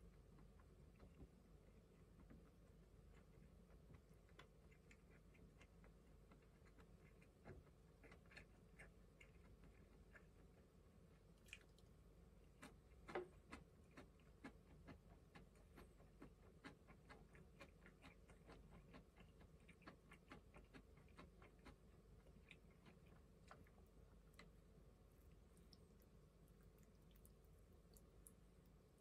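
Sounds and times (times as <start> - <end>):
chewing clicks: 2.0 - 10.7, 11.4 - 24.6, 25.2 - 28.4.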